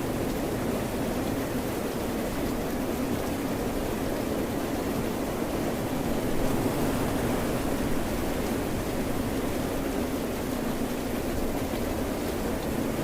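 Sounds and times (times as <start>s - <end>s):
rain: 0.0s - 13.0s
ocean waves: 2.4s - 13.0s.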